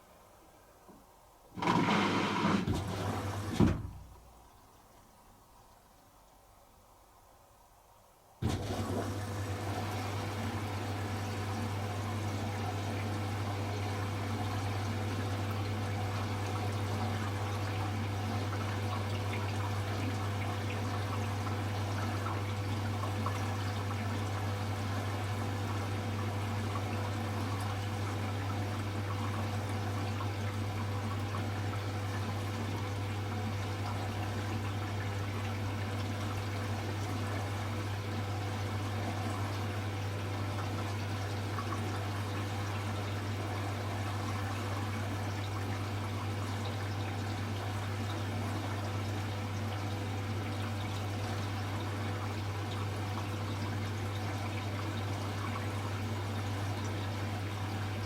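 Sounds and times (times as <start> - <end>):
washing machine humming: 0.0 - 5.0, 8.4 - 58.0.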